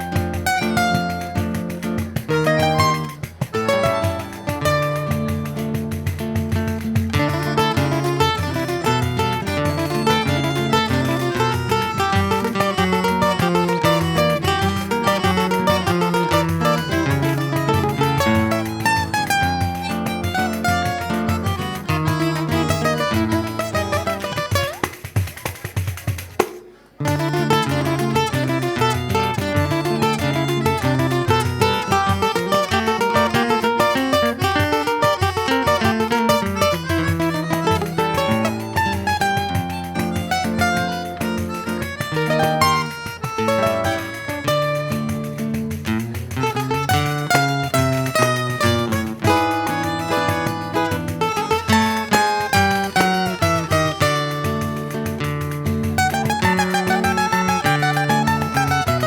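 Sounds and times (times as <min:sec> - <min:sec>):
acoustic plucked-string ensemble: 0:00.0 - 0:59.0.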